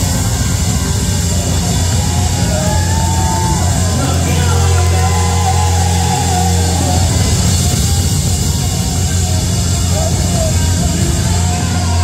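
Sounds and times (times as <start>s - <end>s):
bass guitar: 0.0s - 12.0s.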